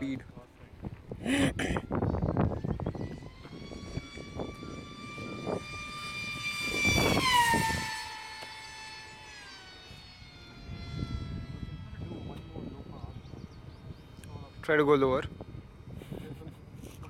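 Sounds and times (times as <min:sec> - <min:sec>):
wind rumbling on microphone: 0:00.0 - 0:17.0
model jet motor whine: 0:00.8 - 0:17.0.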